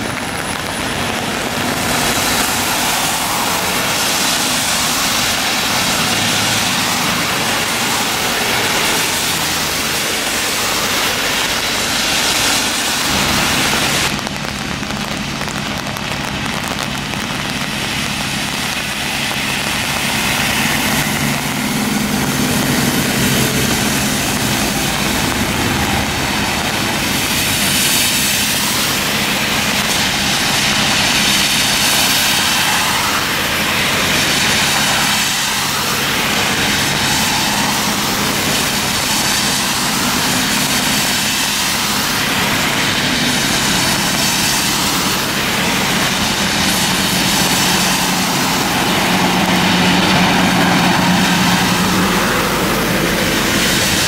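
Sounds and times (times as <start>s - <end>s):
bus engines humming: 0.0s - 54.0s
tyres hissing through water: 0.0s - 54.0s.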